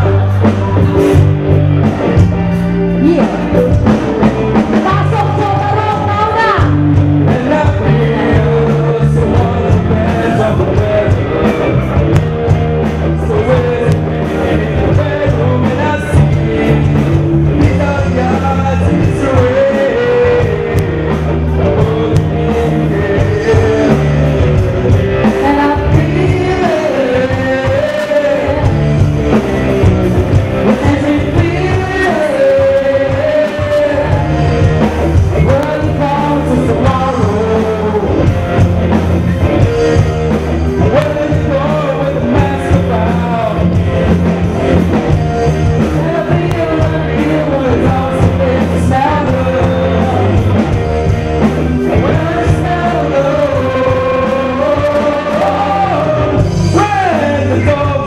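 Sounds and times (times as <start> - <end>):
live rock band playing: 0.0 - 58.0
men singing into microphones: 4.3 - 29.5, 30.6 - 38.8, 40.7 - 44.2, 45.8 - 50.8, 51.8 - 58.0.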